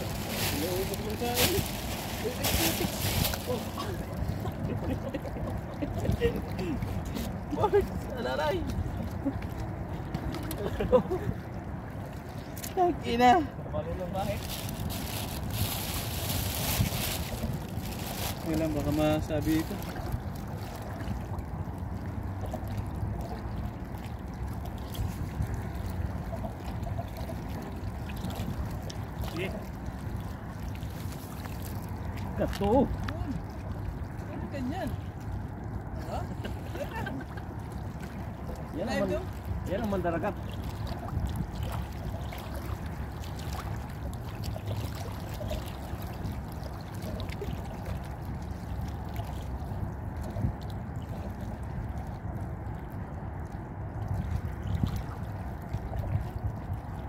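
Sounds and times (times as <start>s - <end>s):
water lapping: 0.0s - 57.0s
wind buffeting microphone: 0.0s - 57.0s.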